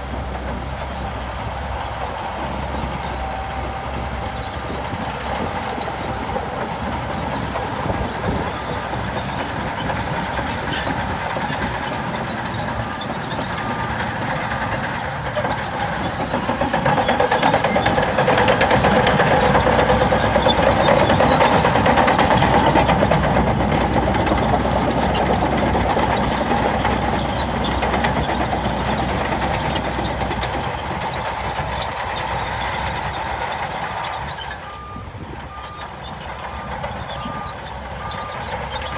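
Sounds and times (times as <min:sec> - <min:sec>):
diesel engine of heavy machinery: 0:00.0 - 0:38.9.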